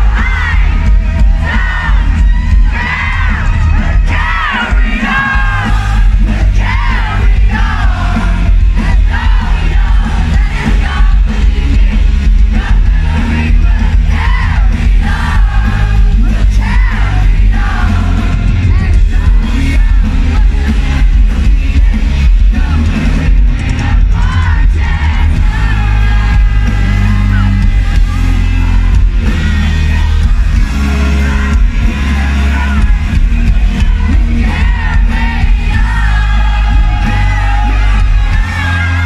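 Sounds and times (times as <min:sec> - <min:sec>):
crowd shouting: 0:00.0 - 0:39.0
live rock band playing: 0:00.0 - 0:39.0.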